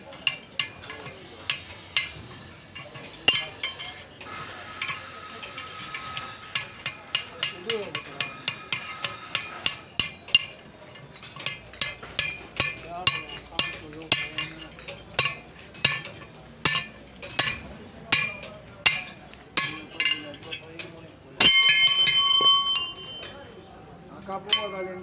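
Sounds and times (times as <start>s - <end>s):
hand tools tapping on metal: 0.0s - 25.0s
thin steady ringing tone: 0.1s - 20.8s, 21.4s - 25.0s.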